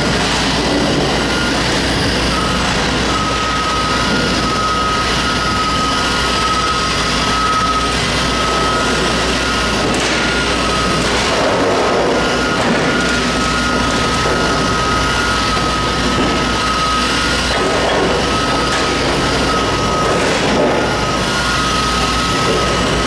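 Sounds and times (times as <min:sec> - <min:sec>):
excavator running on tracks: 0:00.0 - 0:23.0
high beeping tone: 0:00.5 - 0:23.0.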